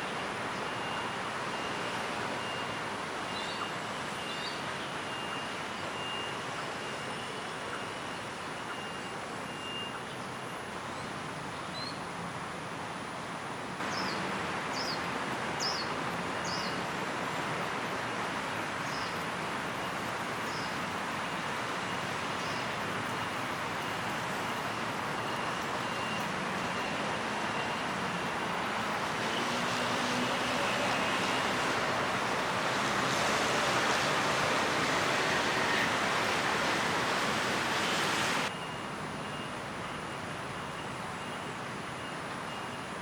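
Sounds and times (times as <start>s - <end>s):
city traffic hum: 0.0s - 43.0s.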